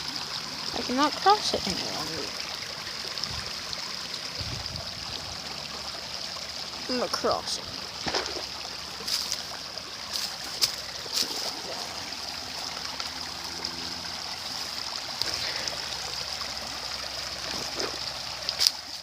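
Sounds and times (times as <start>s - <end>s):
creek trickling over small waterfall: 0.0s - 19.0s.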